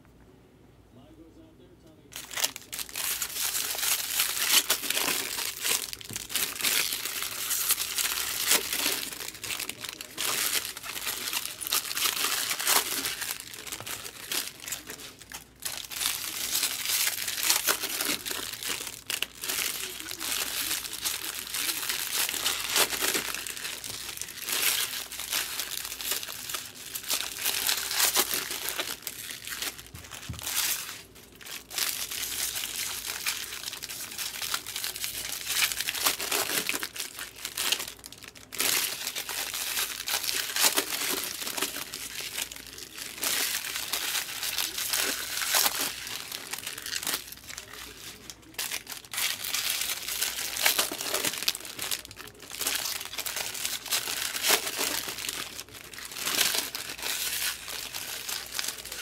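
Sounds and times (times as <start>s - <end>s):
foil wrappers crinkling: 2.1s - 59.0s.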